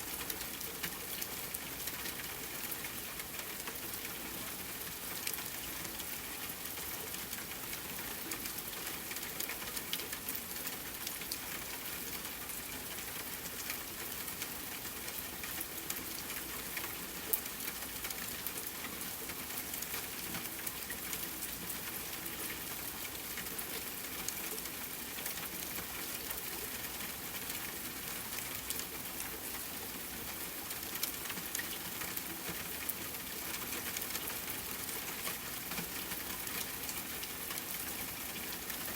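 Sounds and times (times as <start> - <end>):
rain falling: 0.0 - 38.9
raindrops pattering on a surface: 0.0 - 38.9.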